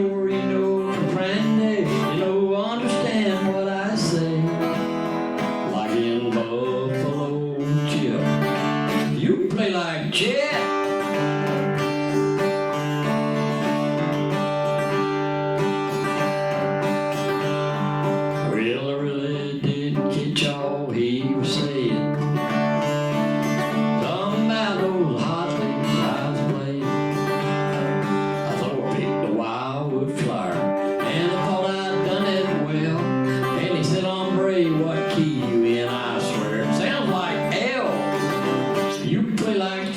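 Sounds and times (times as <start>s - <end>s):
picked acoustic guitar country tune: 0.0s - 39.9s.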